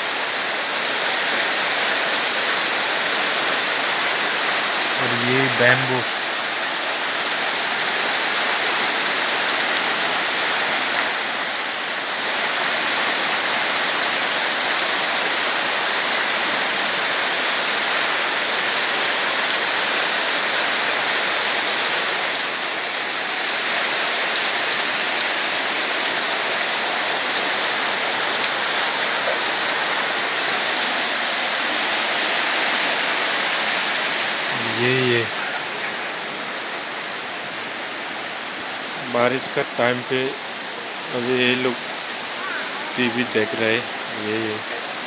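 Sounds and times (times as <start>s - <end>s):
heavy rain: 0.0s - 45.0s.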